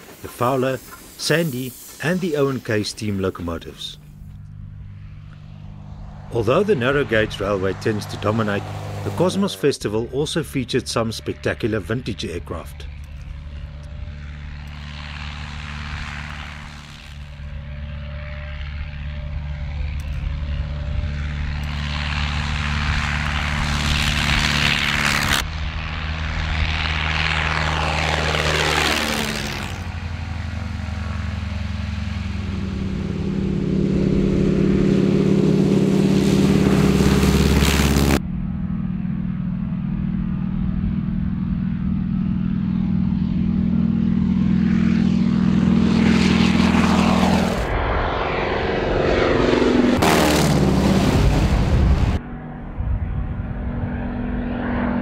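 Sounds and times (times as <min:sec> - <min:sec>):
propeller aircraft engine drone: 0:00.0 - 0:55.0
radial engine close by: 0:00.0 - 0:55.0.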